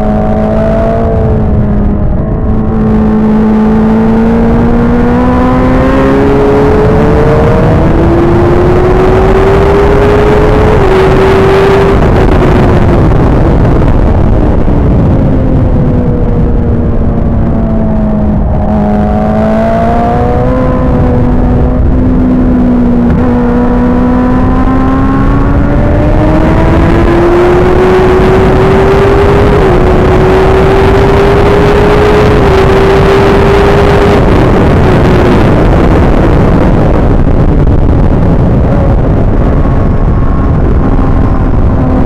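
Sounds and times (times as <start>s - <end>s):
motorcycle engine at full throttle: 0.0s - 42.0s
wind rush: 0.0s - 42.0s.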